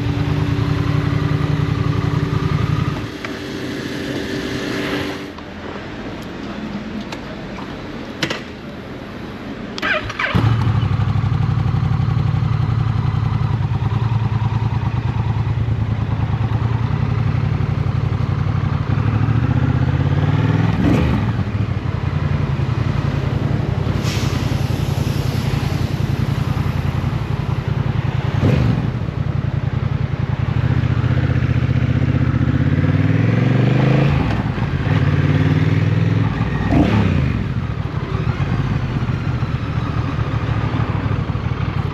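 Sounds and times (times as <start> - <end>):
motorcycle engine at speed: 0.0 - 5.4, 10.2 - 23.8, 25.9 - 41.9.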